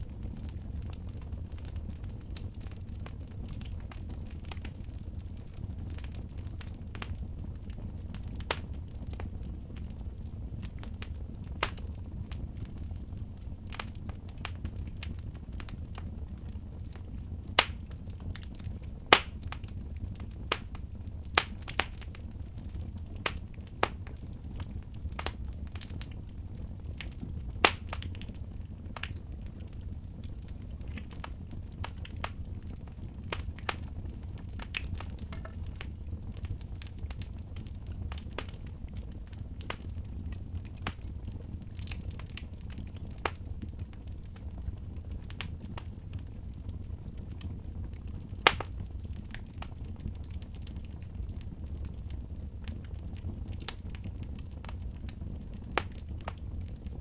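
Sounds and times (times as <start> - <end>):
fire popping: 0.0 - 57.0
wood fire crackling: 0.0 - 57.0.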